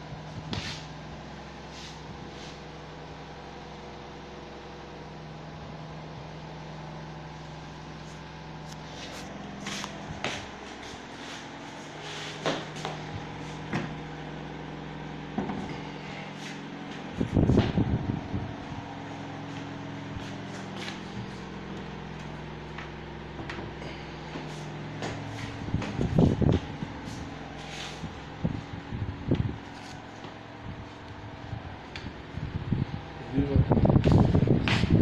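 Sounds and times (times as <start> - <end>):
electric fan humming: 0.0 - 35.0.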